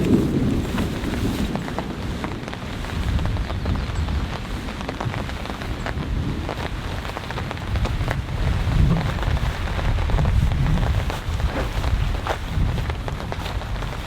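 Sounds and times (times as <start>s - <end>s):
heavy rain pelting down: 0.0s - 14.0s
low rumble of thunder: 0.0s - 14.0s
raindrops tapping close by: 0.0s - 14.0s.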